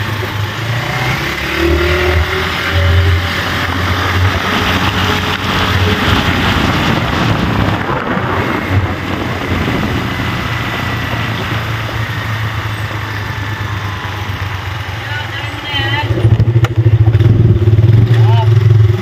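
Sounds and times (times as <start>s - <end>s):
wind noise on microphone: 0.0s - 14.4s, 16.0s - 18.1s
road noise: 0.0s - 19.0s
vehicle engine hum: 0.0s - 19.0s.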